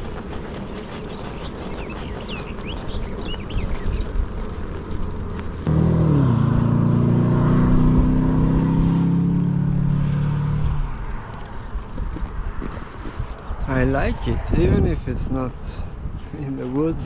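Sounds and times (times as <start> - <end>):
vehicle engine humming: 0.0 - 14.0
wind and road noise: 0.0 - 17.0.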